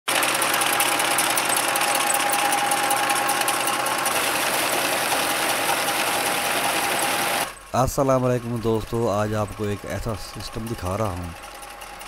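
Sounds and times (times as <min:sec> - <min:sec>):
diesel tractor engine running: 0:00.1 - 0:12.0.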